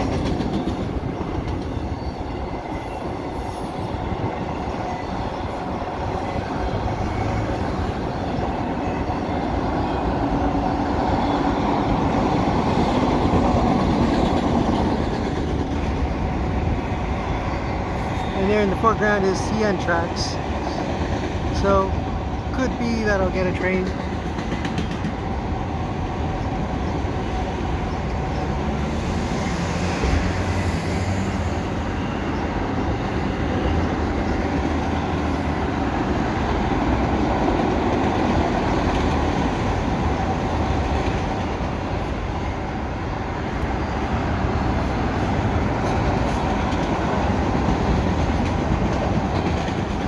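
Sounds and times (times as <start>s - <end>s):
clickety-clack of rails: 0.0s - 50.0s
train wheels rumbling on rail: 0.0s - 50.0s.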